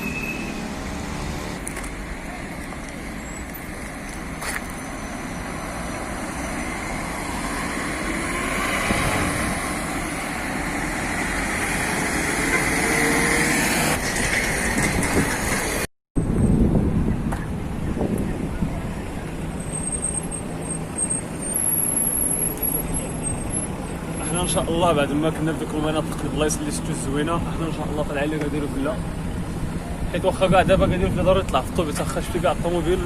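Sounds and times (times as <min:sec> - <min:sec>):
road traffic noise: 0:00.0 - 0:33.0.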